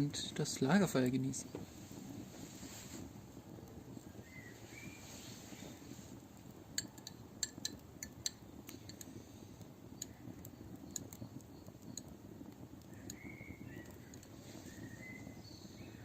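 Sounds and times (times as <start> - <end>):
campfire crackling and popping: 0.0 - 16.0
low steady rumble: 0.0 - 16.0.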